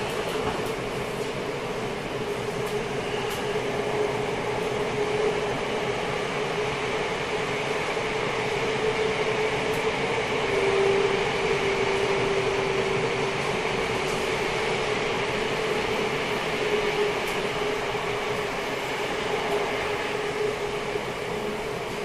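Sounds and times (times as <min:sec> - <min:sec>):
train running in tunnel: 0:00.0 - 0:22.0.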